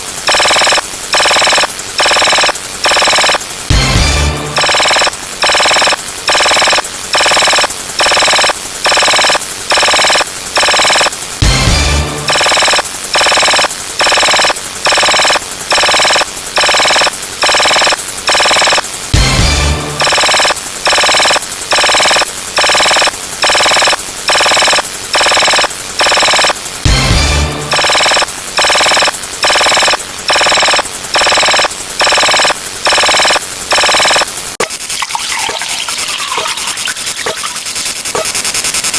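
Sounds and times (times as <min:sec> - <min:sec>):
buzzy synthesized ring: 0:00.2 - 0:34.3.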